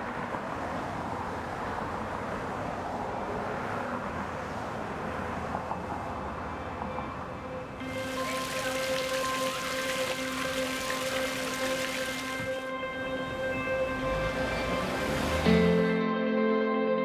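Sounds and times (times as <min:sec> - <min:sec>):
constant wash of noise: 0:00.0 - 0:15.9.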